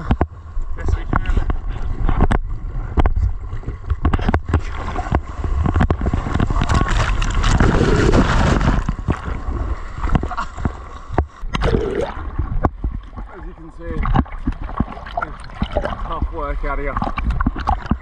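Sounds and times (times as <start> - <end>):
seawater splashing and rushing: 0.0 - 18.0
wind rumble on microphone: 0.0 - 18.0.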